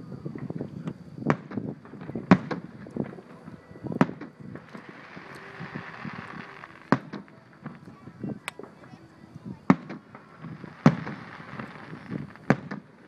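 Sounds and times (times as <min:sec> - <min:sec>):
fireworks hiss: 0:00.0 - 0:13.0
distant fireworks bangs and pops: 0:00.2 - 0:13.0.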